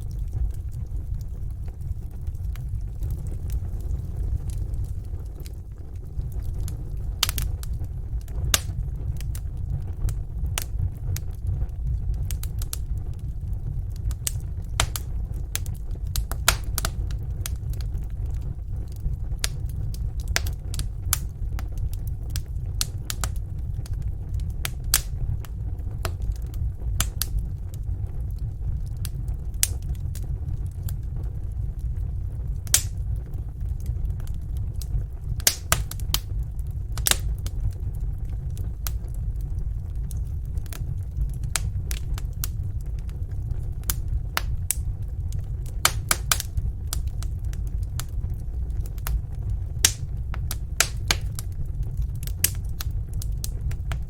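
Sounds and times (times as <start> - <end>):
fire popping and snapping: 0.0 - 54.0
low rumble of flames: 0.0 - 54.0.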